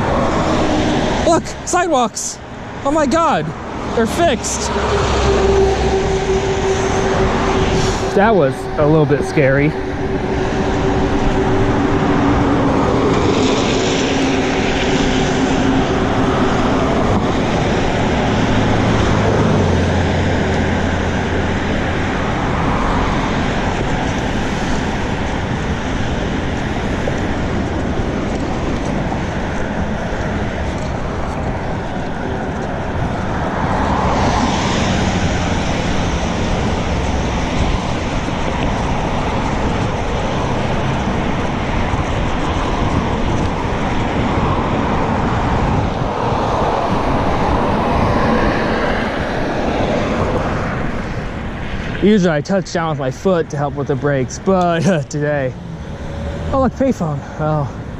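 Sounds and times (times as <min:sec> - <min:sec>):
road traffic passing: 0:00.0 - 0:57.9
wind rushing over microphone: 0:00.0 - 0:57.9.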